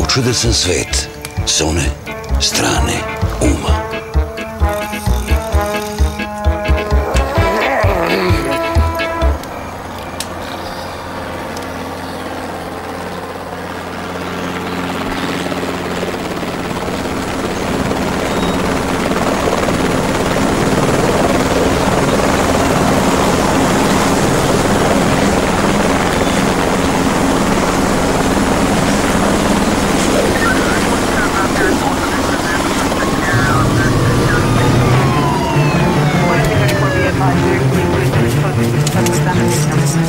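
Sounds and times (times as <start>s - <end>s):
helicopter rotors and engine: 0.0s - 40.0s.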